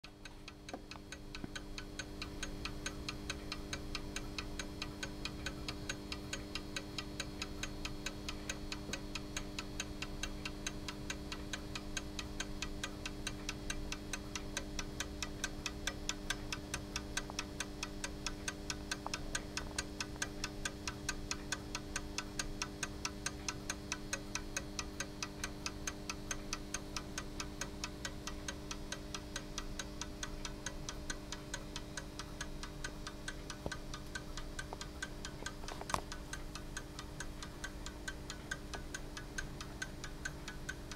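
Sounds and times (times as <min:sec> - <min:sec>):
clock ticking: 0:00.0 - 0:40.9
steady low hum: 0:00.0 - 0:40.9.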